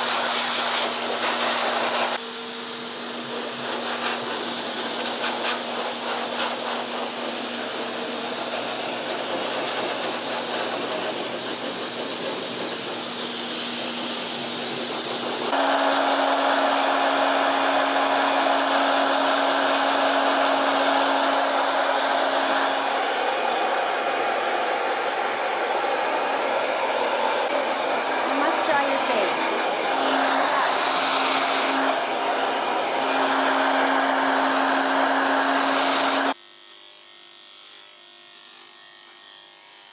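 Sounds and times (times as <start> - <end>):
pet dryer blowing air: 0.0 - 36.4
dryer motor hum: 2.8 - 36.4.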